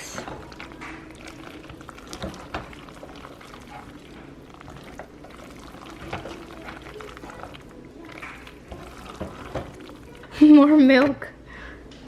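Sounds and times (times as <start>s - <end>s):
cheese sauce being stirred: 0.0s - 10.6s.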